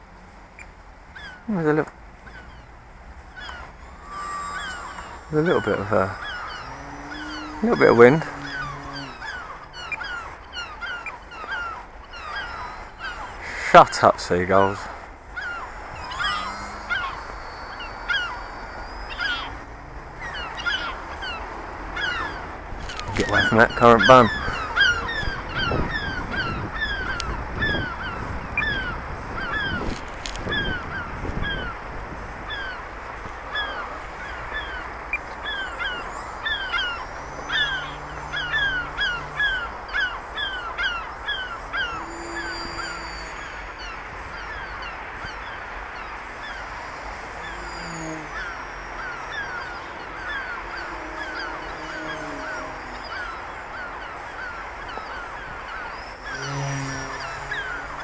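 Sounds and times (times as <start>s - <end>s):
wind buffeting microphone: 0.0s - 58.0s
seagulls calling: 0.6s - 58.0s.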